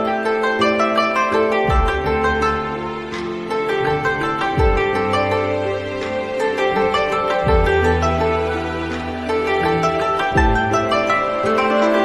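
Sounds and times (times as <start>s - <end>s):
plucked harp-like strings: 0.0s - 12.0s.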